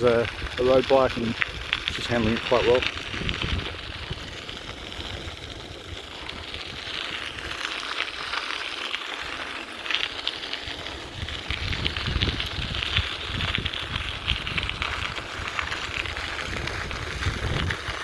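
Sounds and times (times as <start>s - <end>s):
wind rumble on microphone: 0.0s - 7.7s, 10.6s - 18.0s
bicycle tyres on gravel: 0.0s - 18.0s.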